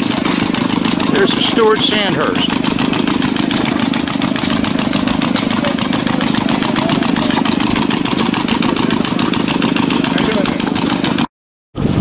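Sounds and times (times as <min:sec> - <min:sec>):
gas engine running: 0:00.0 - 0:12.0.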